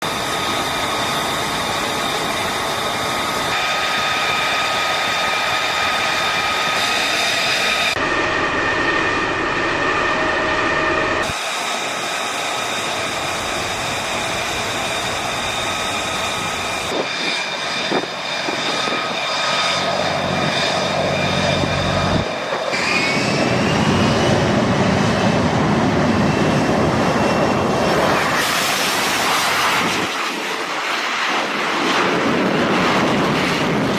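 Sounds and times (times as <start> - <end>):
jet engine whine and roar: 0.0 - 33.9.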